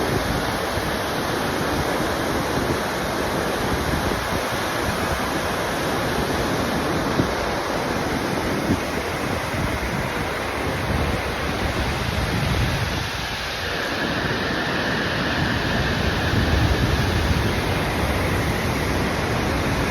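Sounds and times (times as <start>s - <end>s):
waterfall rushing: 0.0s - 19.9s.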